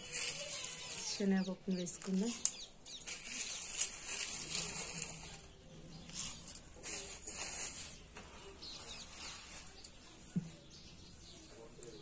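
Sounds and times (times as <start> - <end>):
soft rustles: 1.9 - 11.8.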